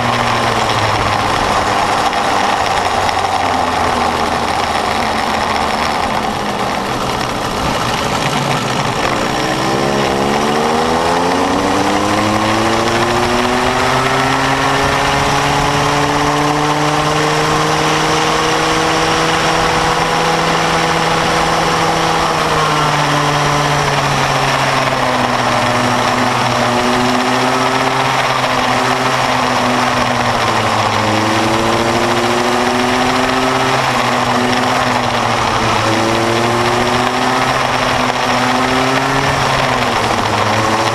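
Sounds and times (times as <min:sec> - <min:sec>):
go-kart engine at full throttle: 0:00.0 - 0:40.9.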